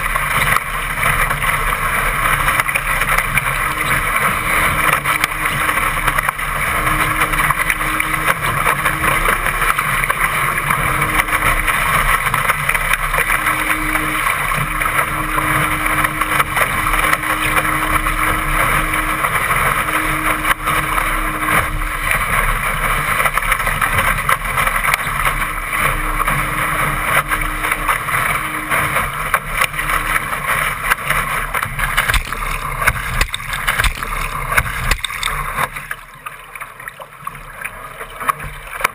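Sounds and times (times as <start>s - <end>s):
water rushing past hull: 0.0s - 38.9s.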